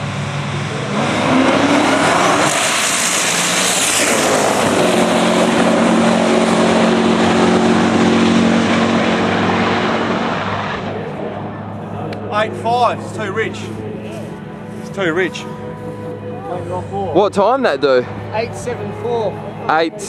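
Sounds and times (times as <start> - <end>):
drag car engine at full throttle: 0.0 - 20.0.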